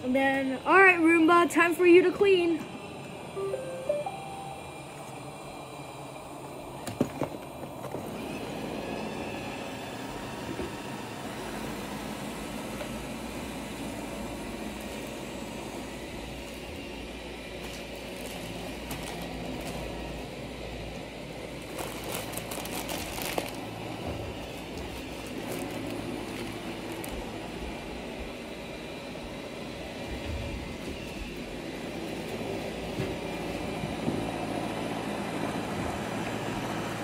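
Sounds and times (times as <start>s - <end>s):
robot vacuum whirring: 2.6s - 37.0s.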